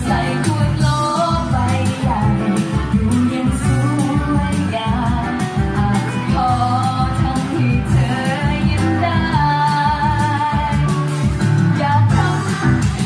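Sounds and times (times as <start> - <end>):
woman singing pop ballad: 0.0 - 13.0.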